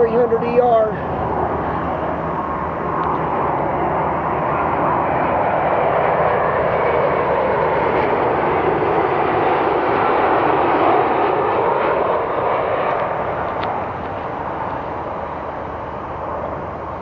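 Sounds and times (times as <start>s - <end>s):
jet engine rushing: 0.0s - 17.0s.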